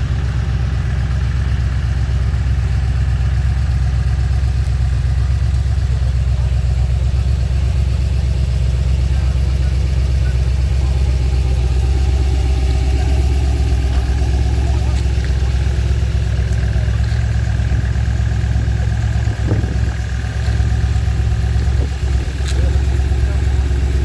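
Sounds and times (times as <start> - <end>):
race car engine idling: 0.0 - 24.0.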